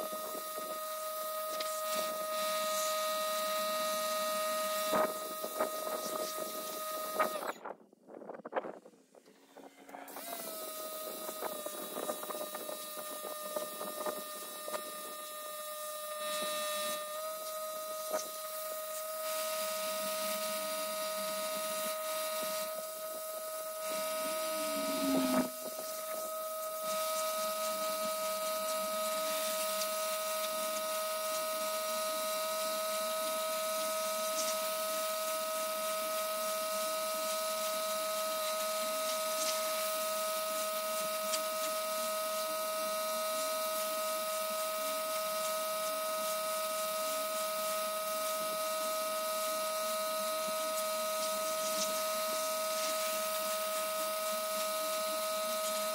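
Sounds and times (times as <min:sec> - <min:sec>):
electrical hum and whine: 0:00.0 - 0:55.9.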